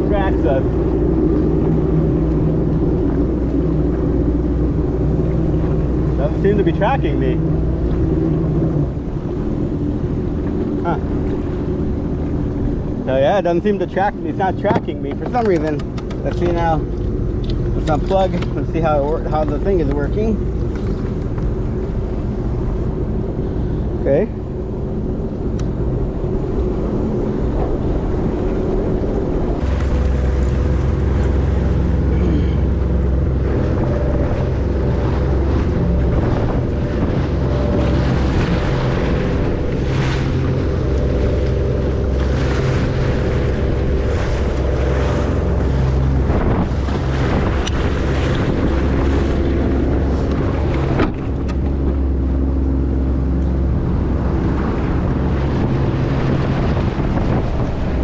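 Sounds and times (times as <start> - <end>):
water splashing against hull: 0.0 - 58.0
watercraft engine running: 0.0 - 58.0
wind buffeting microphone: 0.0 - 58.0.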